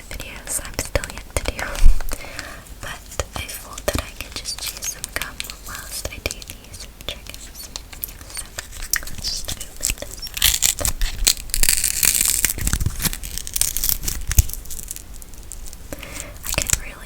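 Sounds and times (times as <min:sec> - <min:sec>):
crackling and scratching on microphone: 0:02.8 - 0:17.0.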